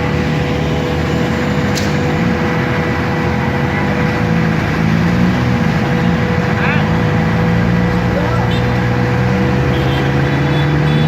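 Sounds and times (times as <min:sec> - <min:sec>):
constant hum: 0:00.0 - 0:11.0
large vehicle engine running: 0:00.0 - 0:11.0.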